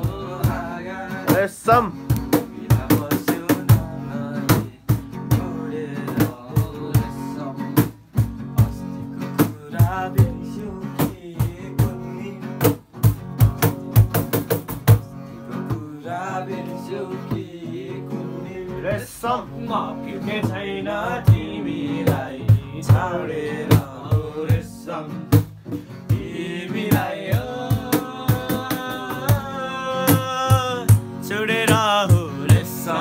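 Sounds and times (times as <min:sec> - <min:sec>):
sharp percussive beats: 0:00.0 - 0:16.0, 0:20.4 - 0:33.0
acoustic guitar strumming: 0:00.0 - 0:33.0.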